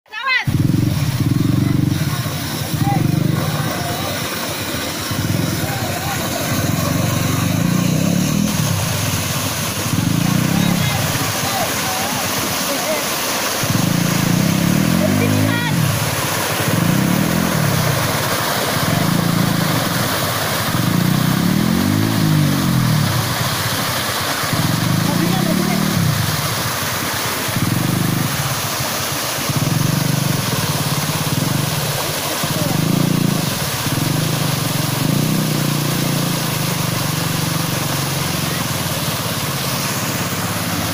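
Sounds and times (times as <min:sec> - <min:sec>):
water rushing: 0:00.1 - 0:40.9
vehicle engine revving: 0:00.5 - 0:40.9.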